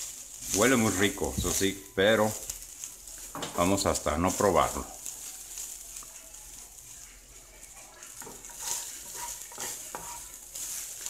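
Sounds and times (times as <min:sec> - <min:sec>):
sausage sizzling in a frying pan: 0:00.0 - 0:11.0
spatula scraping a pan: 0:00.0 - 0:11.0.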